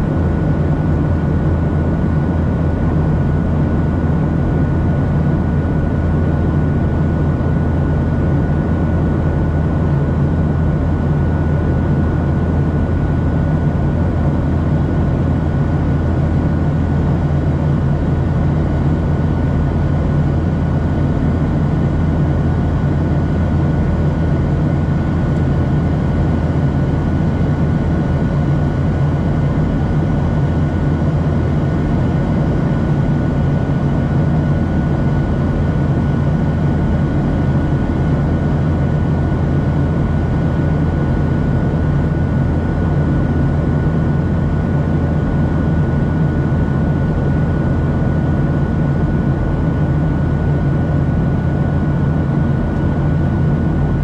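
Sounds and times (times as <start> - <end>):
jet engine drone in cabin: 0.0 - 54.0.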